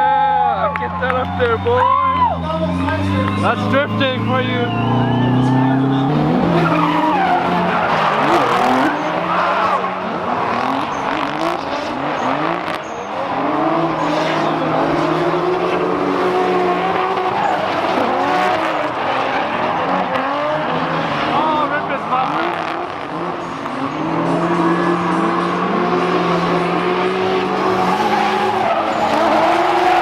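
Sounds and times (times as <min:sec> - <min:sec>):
car engines revving: 0:00.0 - 0:30.0
tire squeal: 0:00.0 - 0:30.0.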